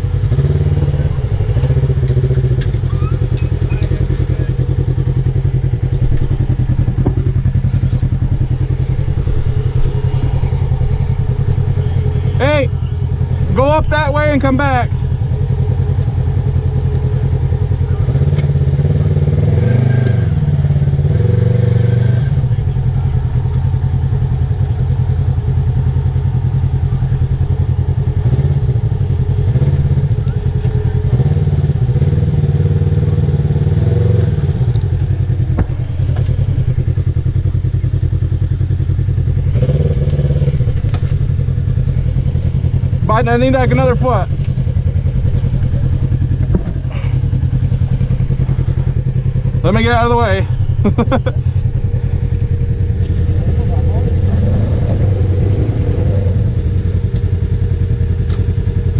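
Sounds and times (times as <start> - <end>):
engine running at low revs: 0.0 - 58.9.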